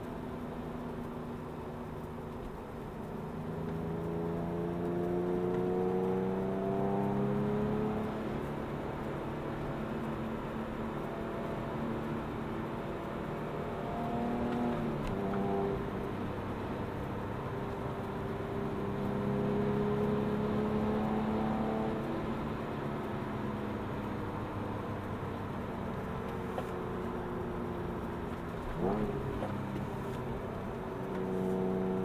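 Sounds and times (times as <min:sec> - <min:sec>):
car engine revving in cabin: 0:00.3 - 0:32.0.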